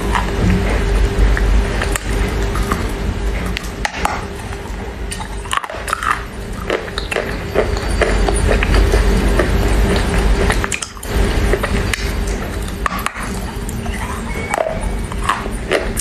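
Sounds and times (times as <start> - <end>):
crunching chewing of clay: 0.0 - 16.0
steady low hum: 0.0 - 16.0.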